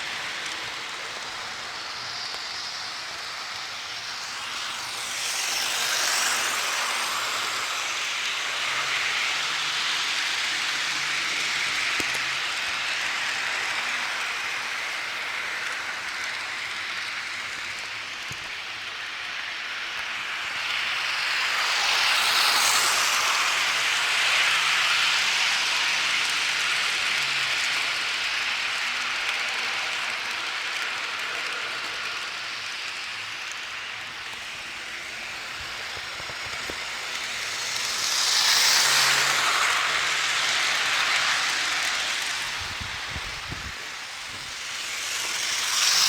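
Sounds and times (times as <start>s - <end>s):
model train wheels on rails: 0.0s - 46.0s.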